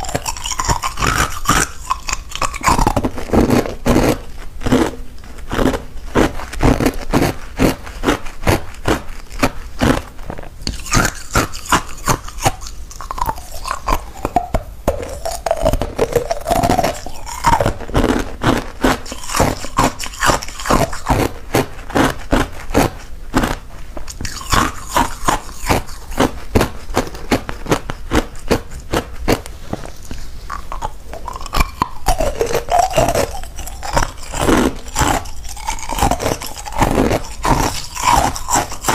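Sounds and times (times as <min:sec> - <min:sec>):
ice cubes crunched by teeth: 0:00.0 - 0:29.4, 0:30.0 - 0:38.9.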